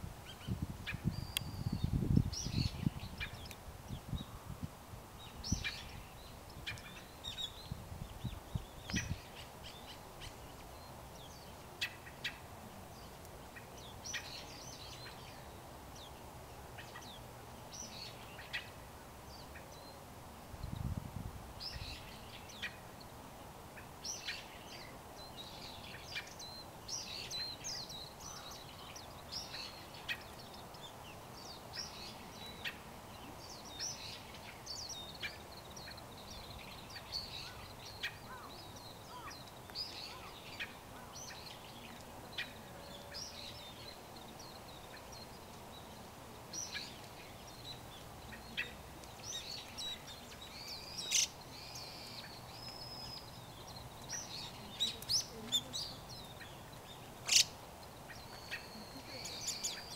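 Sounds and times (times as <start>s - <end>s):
low background noise: 0.0s - 59.9s
songbirds chirping: 0.0s - 59.9s.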